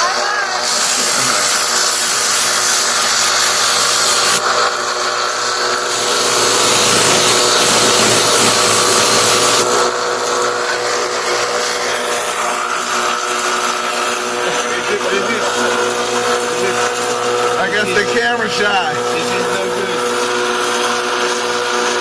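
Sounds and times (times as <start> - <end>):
blade grinding hiss: 0.0 - 22.0
grinder motor hum: 0.0 - 22.0.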